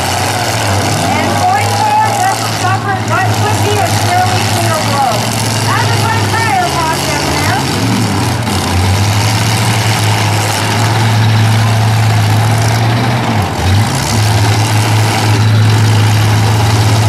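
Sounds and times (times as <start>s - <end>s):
truck engines droning: 0.0s - 17.0s.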